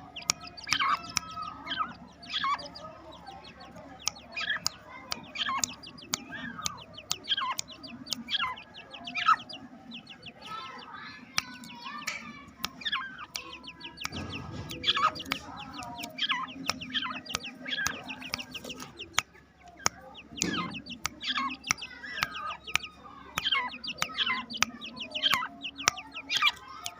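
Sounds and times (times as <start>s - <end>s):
chicks calling: 0.0s - 26.9s
sharp ticks: 0.0s - 26.9s.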